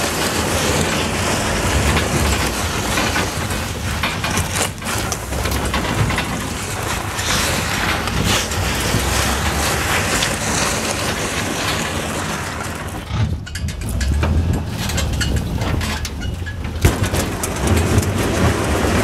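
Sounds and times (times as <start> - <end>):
boat hull scraping over gravel: 0.0 - 19.0
truck engine running: 0.0 - 19.0.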